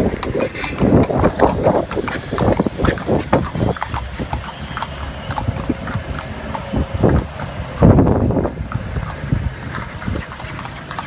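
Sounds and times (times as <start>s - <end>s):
horse hooves clip-clopping on pavement: 0.0s - 11.0s.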